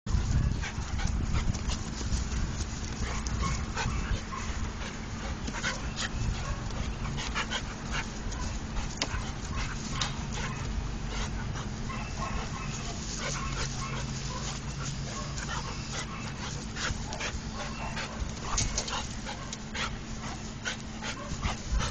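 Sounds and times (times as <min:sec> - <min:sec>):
dog panting: 0:00.1 - 0:21.9
steady low rumble: 0:00.1 - 0:21.9
scuffling clicks: 0:00.8 - 0:21.9.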